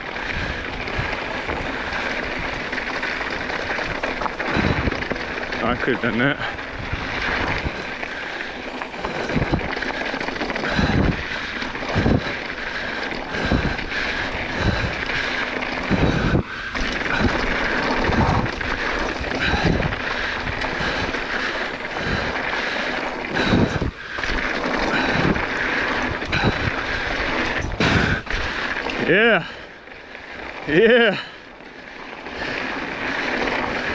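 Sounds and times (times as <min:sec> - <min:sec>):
wind noise on microphone: 0:00.0 - 0:08.0, 0:08.7 - 0:29.6
bike knocking and rattling: 0:00.0 - 0:33.9
tyres crunching over stones: 0:00.2 - 0:33.9.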